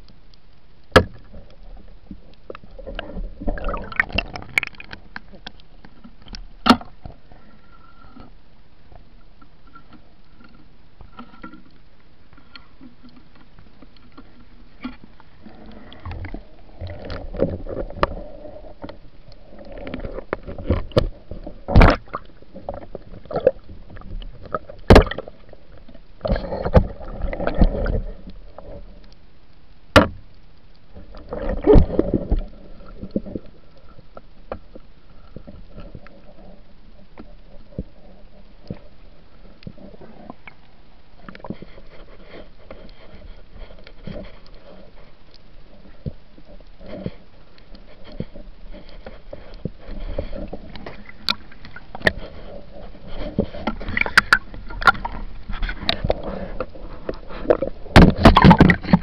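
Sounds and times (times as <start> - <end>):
muffled underwater rushing water: 0.0 - 59.0.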